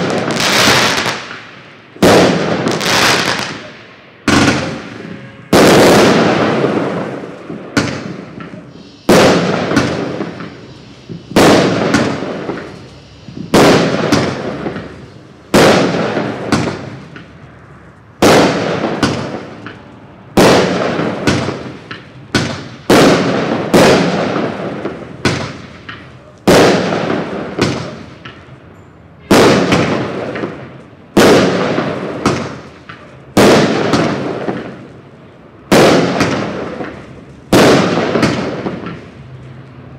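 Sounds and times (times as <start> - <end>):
fireworks bangs: 0.0 - 28.6, 29.2 - 39.4.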